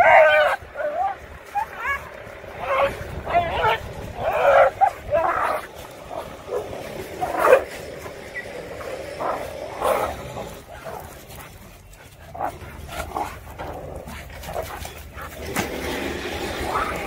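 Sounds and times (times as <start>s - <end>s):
dogs snarling and barking: 0.0s - 17.0s.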